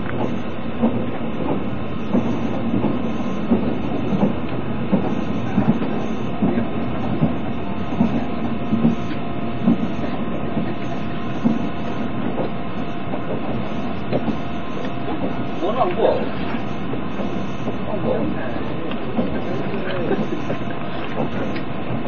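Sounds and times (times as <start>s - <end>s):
train carriage rumble: 0.0s - 22.0s
wheels clicking over rail joints: 0.0s - 22.0s.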